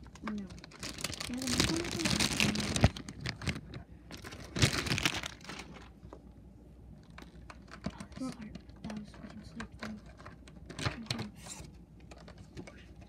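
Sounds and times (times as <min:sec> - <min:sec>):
rustling and crinkling handling: 0:00.0 - 0:06.3, 0:06.9 - 0:13.0.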